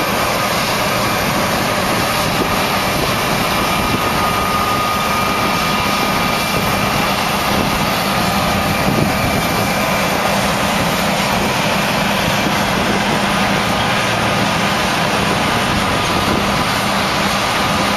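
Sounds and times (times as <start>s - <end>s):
engine drone: 0.0s - 17.9s
high-pitched whine: 0.0s - 17.9s.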